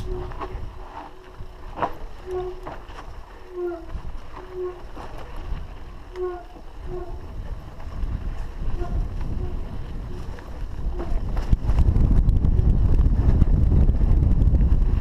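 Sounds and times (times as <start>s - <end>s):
bike tyre and frame rattle: 0.0s - 15.0s
wind on microphone: 0.0s - 15.0s.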